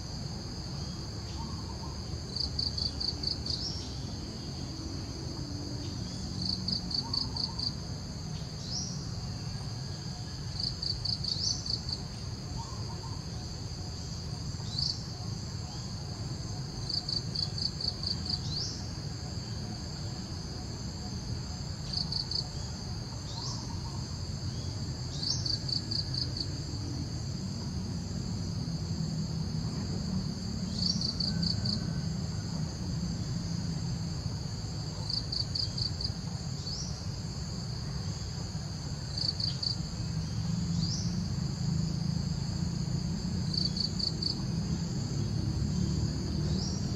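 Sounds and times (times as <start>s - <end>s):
insects buzzing: 0.0s - 46.9s
pulsed insect trills: 0.0s - 46.9s.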